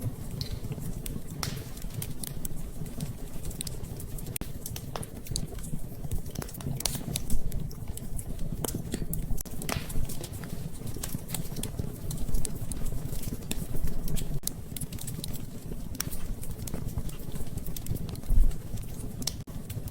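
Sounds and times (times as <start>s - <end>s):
wood fire crackling and popping: 0.0s - 19.9s.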